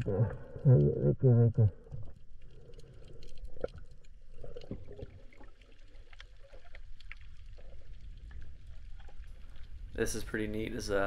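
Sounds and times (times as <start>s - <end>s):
underwater clicks and crackles: 0.0s - 11.0s.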